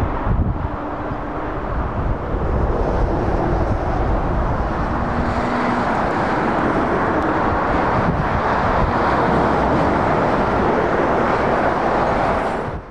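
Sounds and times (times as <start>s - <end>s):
lorries driving past: 0.0s - 12.9s.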